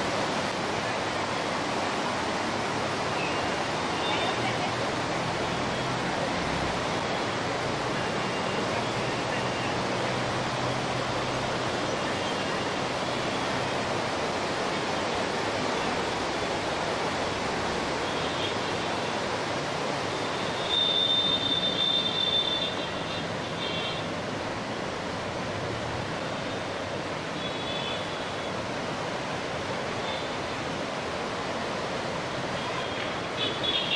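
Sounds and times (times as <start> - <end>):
rushing floodwater: 0.0 - 33.9.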